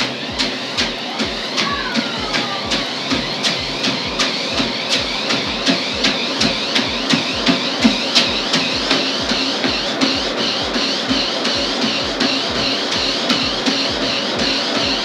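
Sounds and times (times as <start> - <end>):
bare feet thudding on treadmill: 0.0 - 15.0
treadmill motor running: 0.0 - 15.0.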